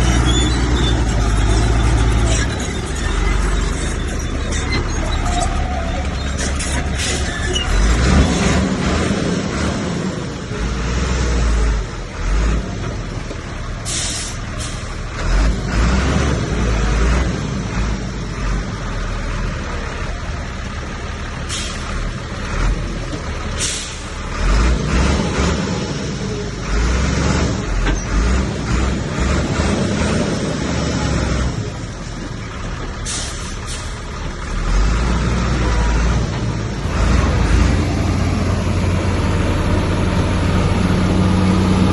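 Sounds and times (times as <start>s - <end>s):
diesel earthmoving machinery working: 0.0s - 41.9s.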